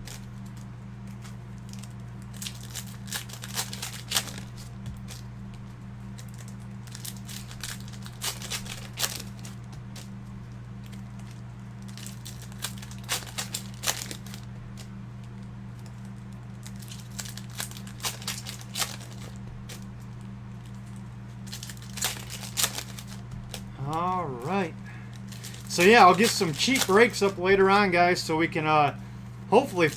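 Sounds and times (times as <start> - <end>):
plastic wrapping crinkling and tearing: 0.0 - 5.3, 6.0 - 27.9, 29.6 - 29.9
low electrical hum: 0.0 - 29.9.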